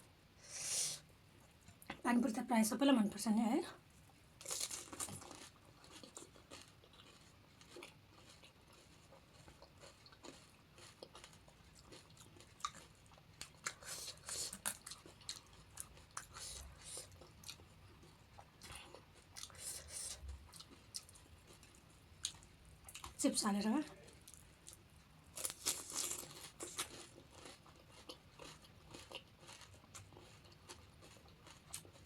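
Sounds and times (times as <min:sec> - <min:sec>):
crunchy food being chewed: 0:04.4 - 0:23.2, 0:24.0 - 0:32.0.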